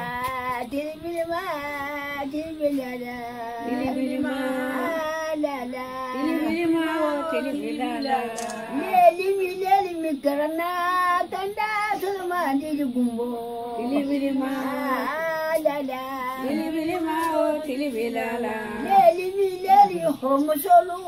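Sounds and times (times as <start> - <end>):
woman singing slow melody: 0.0 - 21.0.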